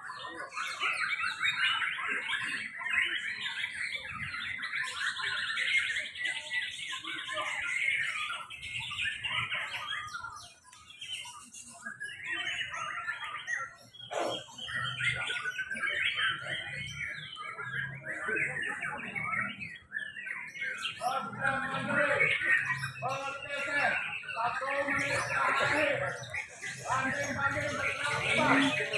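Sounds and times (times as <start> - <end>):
birds singing whistles and chirps: 0.0 - 28.9.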